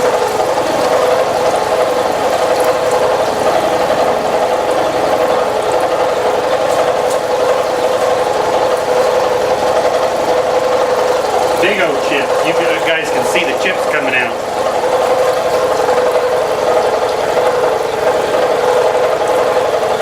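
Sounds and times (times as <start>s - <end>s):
milling machine cutting hum: 0.0s - 20.0s.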